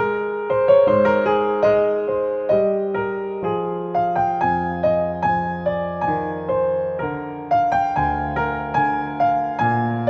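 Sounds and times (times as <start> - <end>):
piano notes ringing: 0.0 - 10.0.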